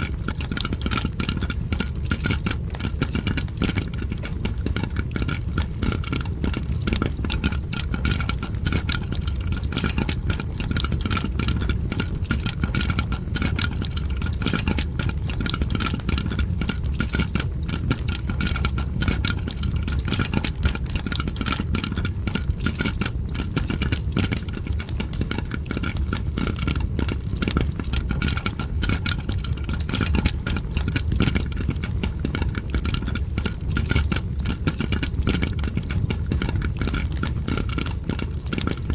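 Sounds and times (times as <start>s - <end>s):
popcorn popping: 0.0s - 38.9s
fireplace crackling: 5.5s - 38.9s.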